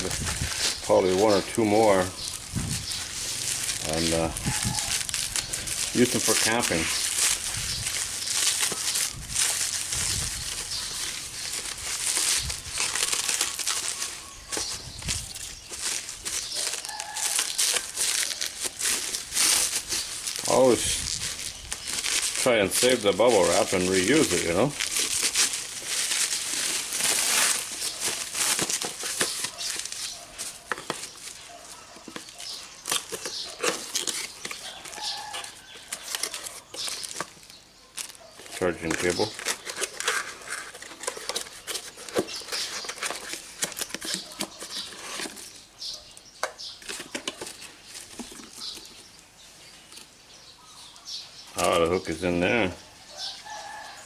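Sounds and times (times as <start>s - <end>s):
packaging crinkling: 0.0s - 46.0s, 46.6s - 49.2s.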